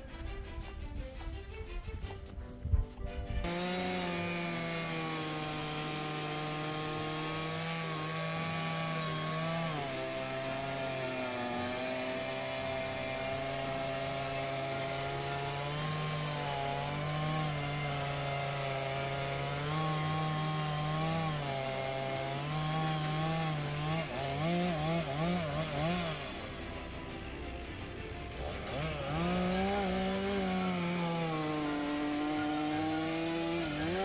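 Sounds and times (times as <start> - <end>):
chainsaw running and revving: 3.4 - 34.0.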